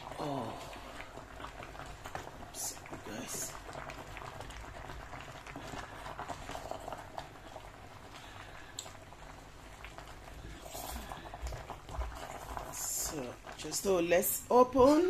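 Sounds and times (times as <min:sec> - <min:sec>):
soup bubbling at the boil: 0:00.0 - 0:15.0.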